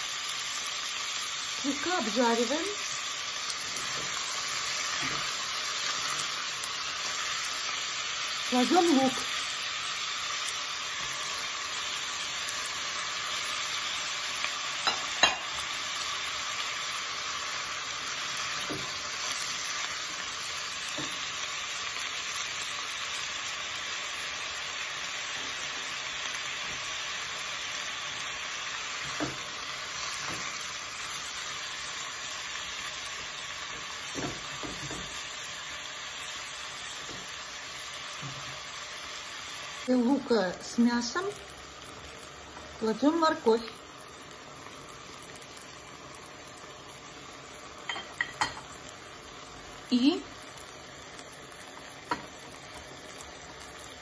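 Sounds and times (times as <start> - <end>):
meat and onion sizzling in oil: 0.0 - 54.0.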